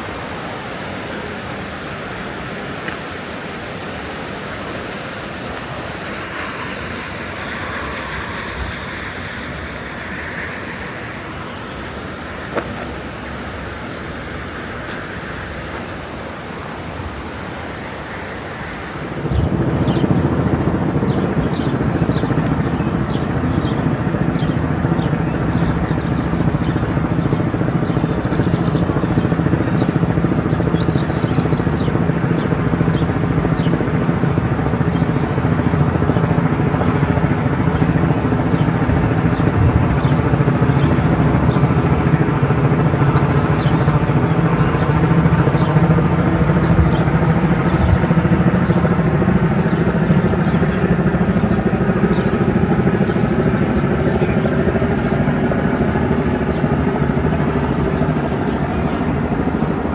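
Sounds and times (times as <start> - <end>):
helicopter overhead: 0.0 - 59.9.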